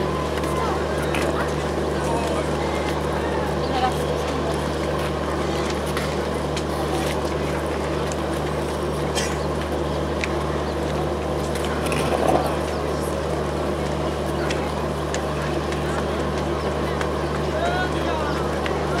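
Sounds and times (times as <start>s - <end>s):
crowd chatter: 0.0s - 19.0s
diesel locomotive idling: 0.0s - 19.0s.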